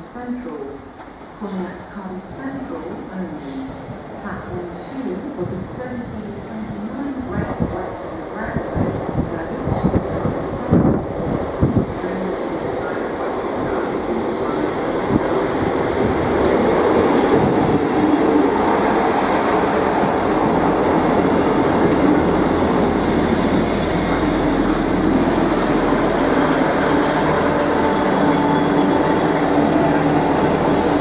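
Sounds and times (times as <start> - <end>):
train wheel and rail noise: 0.0 - 31.0.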